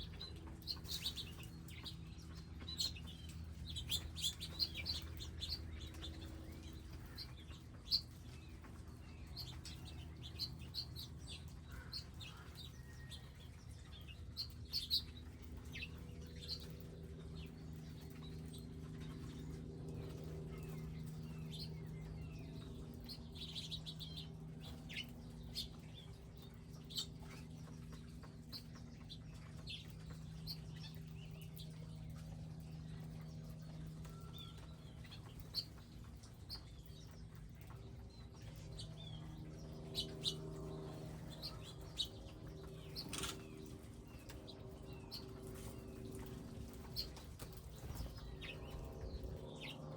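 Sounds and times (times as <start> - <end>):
low steady hum: 0.0 - 49.9
small birds chirping: 0.0 - 49.9.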